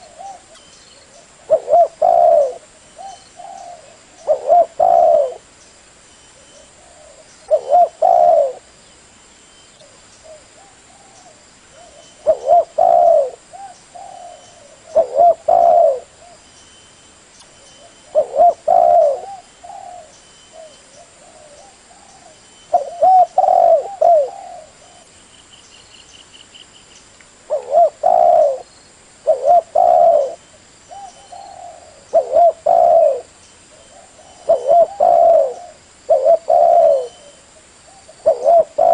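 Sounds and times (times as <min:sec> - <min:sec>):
dove cooing: 0:00.0 - 0:05.5, 0:06.4 - 0:08.7, 0:09.8 - 0:16.4, 0:17.8 - 0:25.1, 0:27.5 - 0:38.9.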